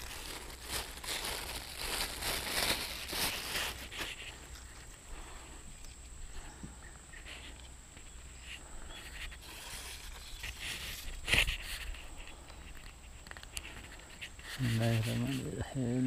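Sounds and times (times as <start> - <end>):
clothing and fishing rod rustling: 0.0 - 6.4, 7.1 - 15.6.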